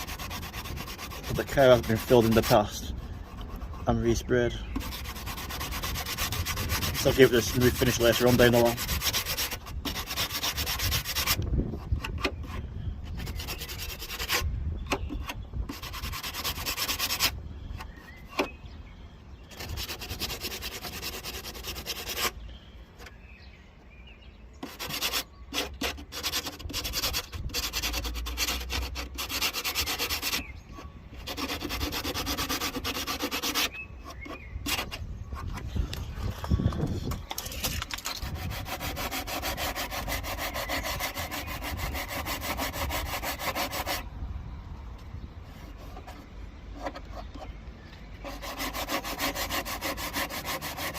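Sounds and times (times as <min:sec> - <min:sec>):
sandpaper rubbing on metal: 0:00.0 - 0:17.4, 0:19.5 - 0:22.4, 0:24.6 - 0:30.5, 0:31.2 - 0:44.0, 0:48.2 - 0:50.9.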